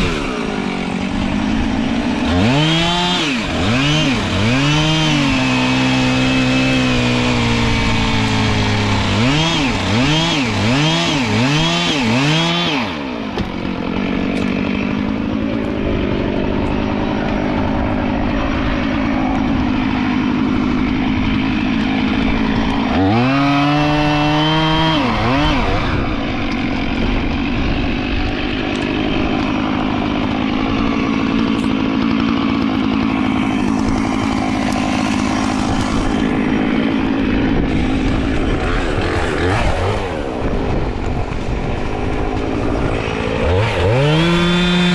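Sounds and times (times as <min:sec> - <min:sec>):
chainsaw revving and running: 0:00.0 - 0:44.9.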